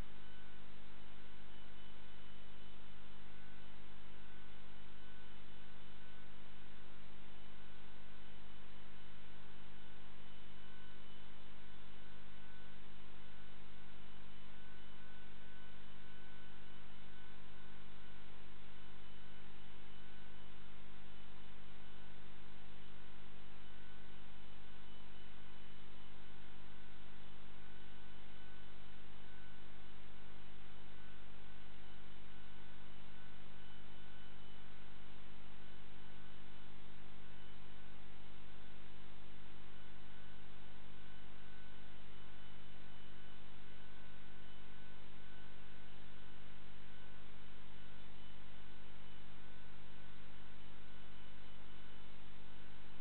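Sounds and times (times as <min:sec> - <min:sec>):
constant hiss: 0:00.0 - 0:53.0
electrical mains hum: 0:00.0 - 0:53.0.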